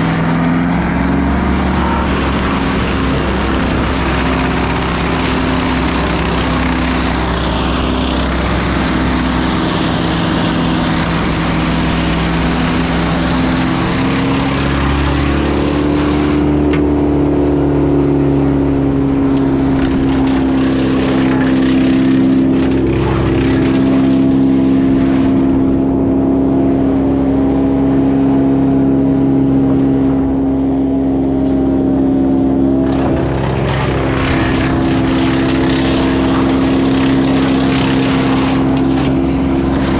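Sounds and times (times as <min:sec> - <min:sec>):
motor engine running: 0:00.0 - 0:39.9.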